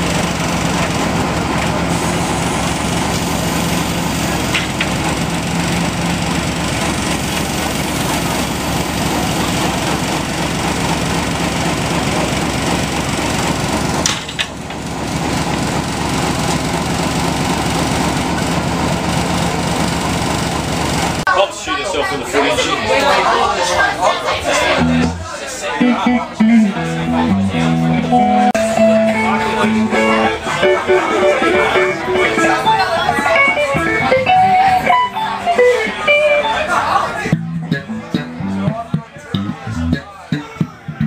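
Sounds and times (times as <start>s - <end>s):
diesel locomotive engine droning: 0.0s - 21.4s, 22.0s - 41.0s.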